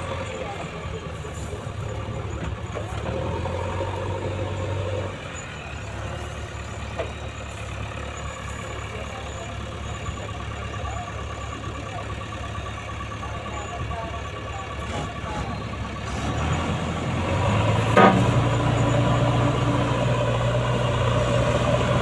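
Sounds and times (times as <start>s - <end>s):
heavy diesel engines running: 0.0s - 22.0s.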